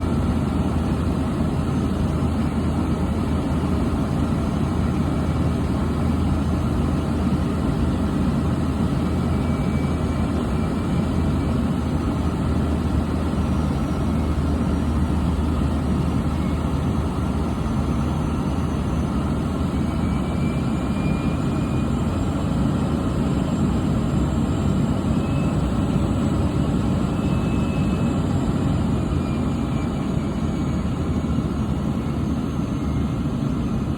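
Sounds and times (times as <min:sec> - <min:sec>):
engine droning steadily: 0:00.0 - 0:33.9.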